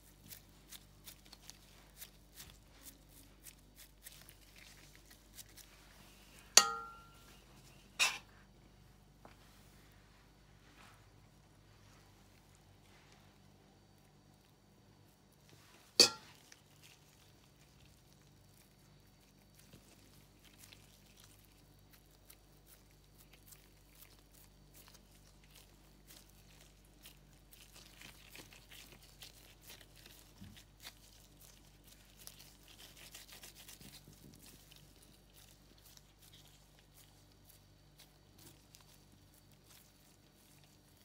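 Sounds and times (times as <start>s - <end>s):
hands squishing dough: 0.0s - 41.0s
low steady hum: 0.0s - 41.0s.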